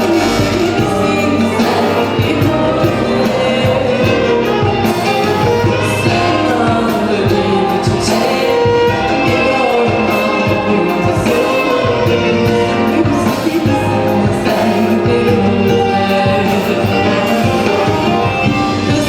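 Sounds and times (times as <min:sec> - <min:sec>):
instrumental backing music: 0:00.0 - 0:19.0
person singing: 0:00.0 - 0:19.0.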